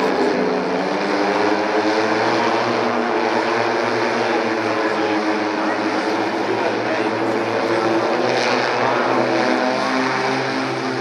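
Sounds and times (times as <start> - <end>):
electric aircraft propellers droning: 0.0 - 11.0.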